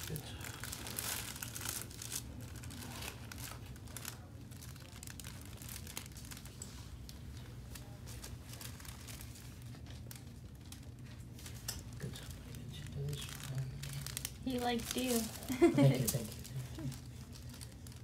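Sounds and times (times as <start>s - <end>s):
paper liner crinkling: 0.0s - 18.0s
steady low hum: 0.0s - 18.0s.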